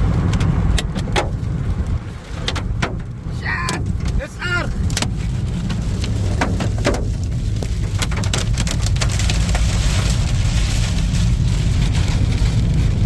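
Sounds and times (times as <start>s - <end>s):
heavy rain: 0.0s - 13.0s
strong wind rumbling: 0.0s - 13.0s.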